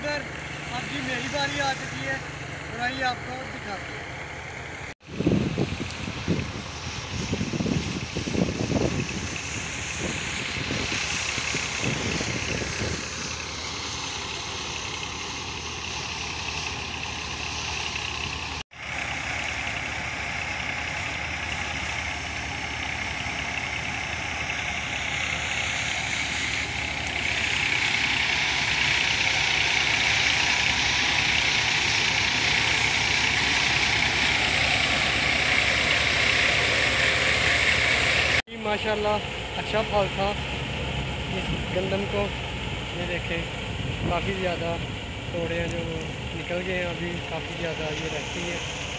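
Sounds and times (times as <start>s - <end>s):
tractor engine driving thresher: 0.0s - 48.9s.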